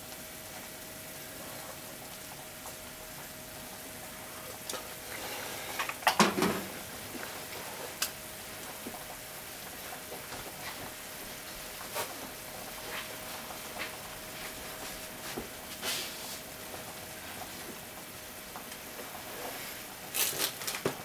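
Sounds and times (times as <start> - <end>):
food sizzling in a frying pan: 0.0 - 20.8.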